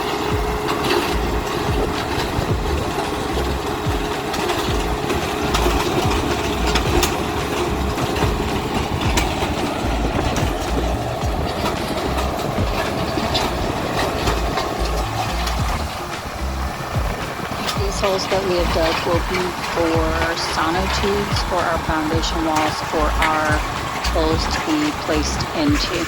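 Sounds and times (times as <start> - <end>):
metallic clanks and knocks: 0.0 - 26.0
tractor engine running: 0.0 - 26.0.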